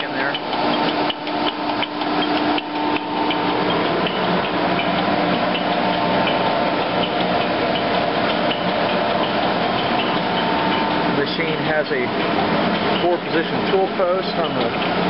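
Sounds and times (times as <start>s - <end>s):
lathe running: 0.0s - 15.0s.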